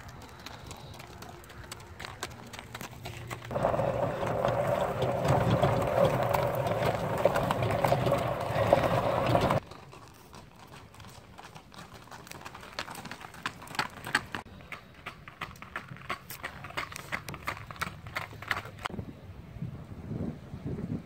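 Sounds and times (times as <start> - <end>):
horse hoofbeats on gravel: 0.0 - 18.9.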